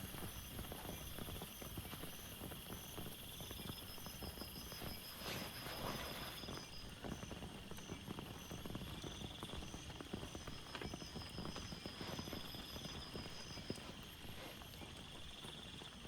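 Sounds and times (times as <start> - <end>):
raindrops hitting close by: 0.0 - 16.0.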